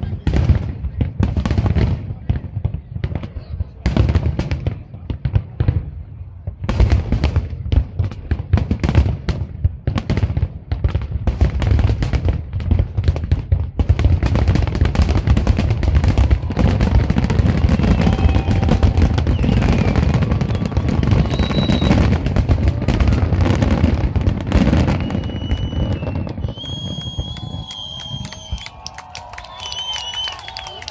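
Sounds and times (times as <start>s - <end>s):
fireworks bursts and bangs: 0.0s - 30.9s
fireworks crackling barrage: 0.0s - 30.9s.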